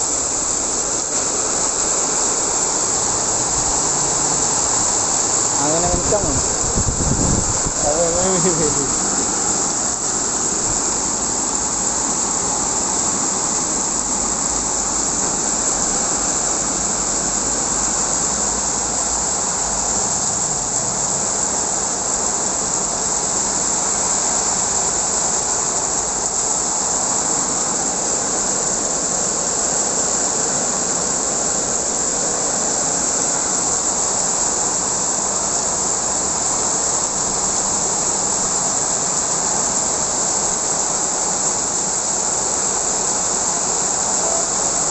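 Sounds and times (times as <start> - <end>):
heavy rain in strong wind: 0.0 - 44.9.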